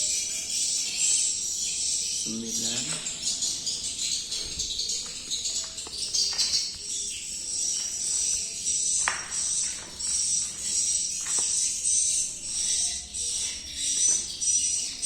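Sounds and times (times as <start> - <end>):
bird chirping trills: 0.0 - 15.0.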